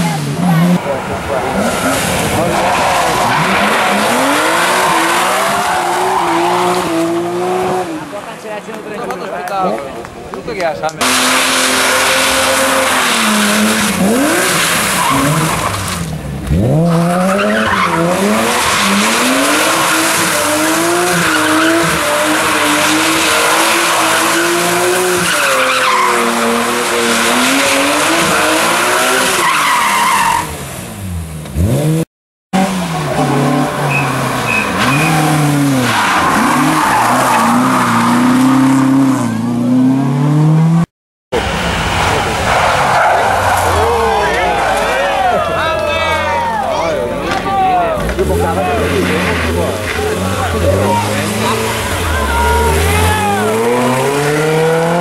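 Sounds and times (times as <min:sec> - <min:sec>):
tyres squealing and skidding: 0:00.0 - 0:08.1, 0:11.0 - 0:30.6, 0:32.6 - 0:39.9, 0:41.4 - 0:55.0
rally car engines at full throttle: 0:00.0 - 0:55.0.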